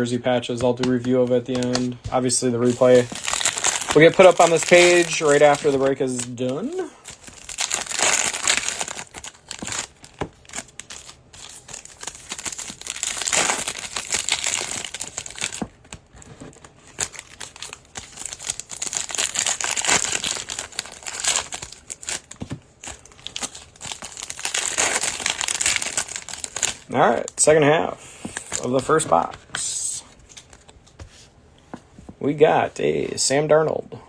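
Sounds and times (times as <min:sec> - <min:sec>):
card pack wrappers crinkling: 0:00.5 - 0:27.6, 0:28.2 - 0:30.8.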